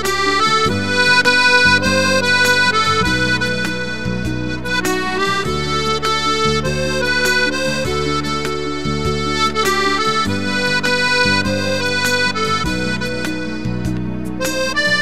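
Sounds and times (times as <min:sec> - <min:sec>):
piano accordion melody: 0:00.0 - 0:15.0.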